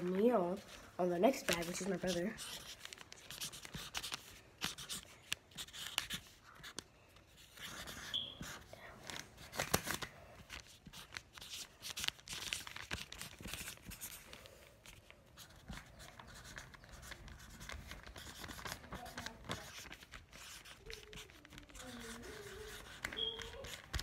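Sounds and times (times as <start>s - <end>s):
marker scratching on paper: 1.3s - 9.5s, 10.4s - 14.2s, 15.3s - 24.0s.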